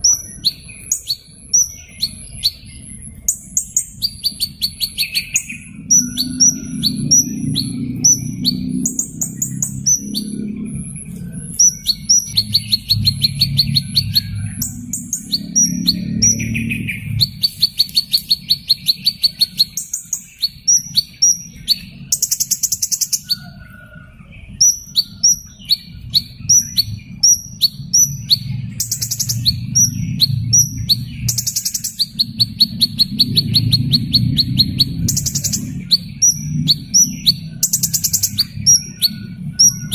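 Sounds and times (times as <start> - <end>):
buzzy hummingbird trills: 0.0 - 23.7, 24.6 - 39.9.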